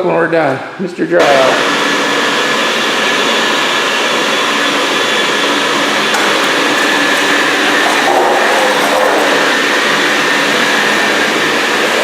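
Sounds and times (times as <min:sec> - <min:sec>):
water vacuum whining: 0:00.4 - 0:12.0.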